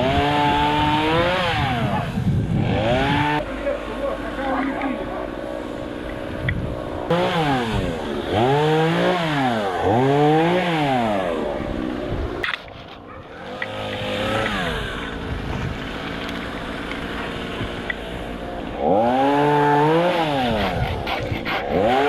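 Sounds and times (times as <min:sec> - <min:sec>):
chainsaw engine revving: 0:00.0 - 0:12.6, 0:13.4 - 0:22.0.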